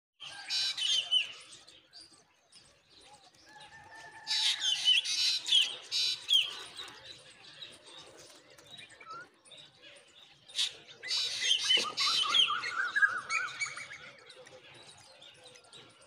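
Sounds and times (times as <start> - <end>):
birds chirping raspily: 0.2 - 16.0.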